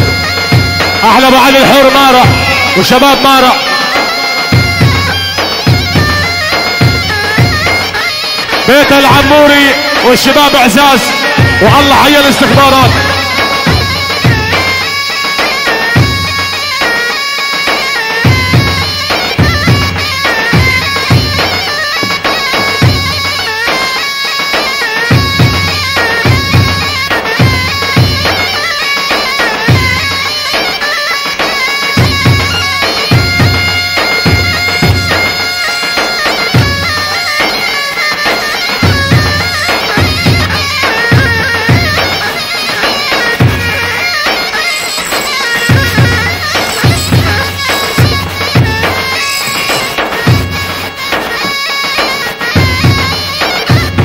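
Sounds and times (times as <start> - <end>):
drums beating steady rhythm: 0.0 - 54.0
piercing reedy wind melody: 1.9 - 54.0.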